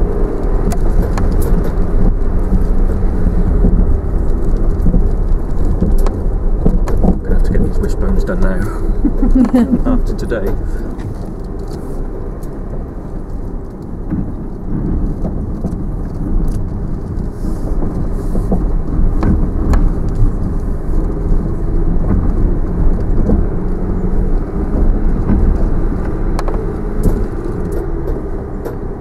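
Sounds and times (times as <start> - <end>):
engine and tyre rumble: 0.0 - 29.0
knocks and clicks over ruts: 0.0 - 29.0.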